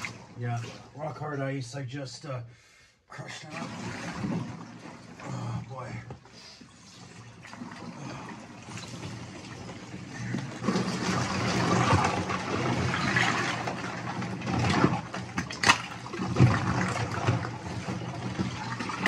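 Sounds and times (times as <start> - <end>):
water and ice sloshing: 0.0 - 1.4, 3.2 - 19.0.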